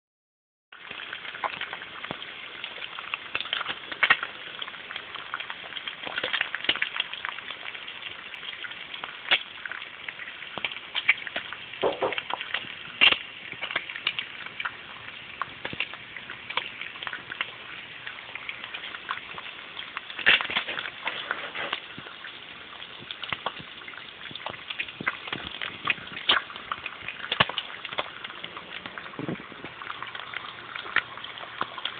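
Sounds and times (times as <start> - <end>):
bacon sizzling in a pan: 0.7 - 31.9
fat popping and crackling: 0.8 - 31.9.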